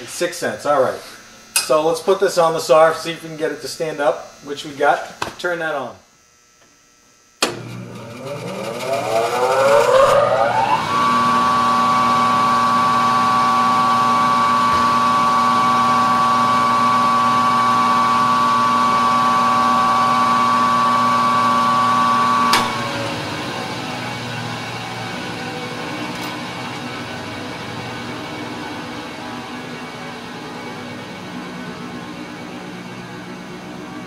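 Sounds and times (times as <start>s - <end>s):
bandsaw motor whine: 6.6s - 34.0s.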